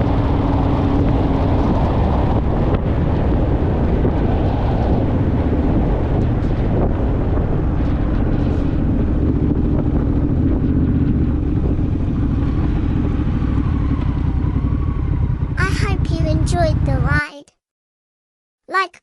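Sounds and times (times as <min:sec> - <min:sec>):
motorcycle engine running: 0:00.0 - 0:17.1
wind noise on microphone: 0:00.0 - 0:17.2.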